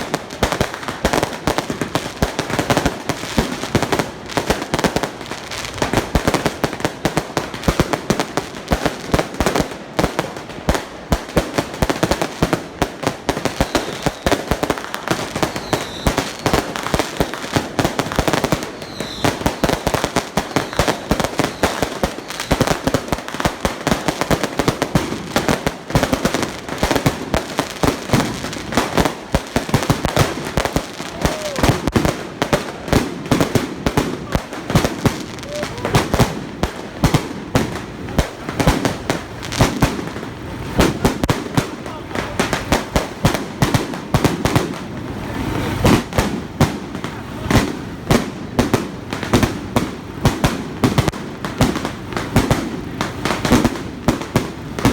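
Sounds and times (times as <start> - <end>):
firecrackers going off: 0.0 - 54.9.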